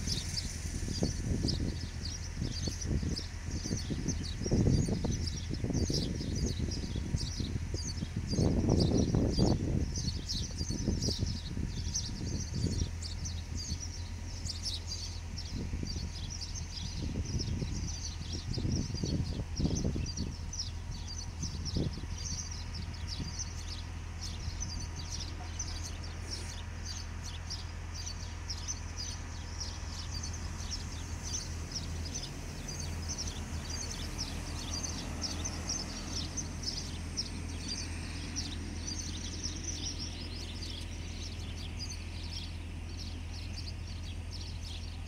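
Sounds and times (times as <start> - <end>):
small birds chirping: 0.0 - 45.0
steady low hum: 0.0 - 45.0.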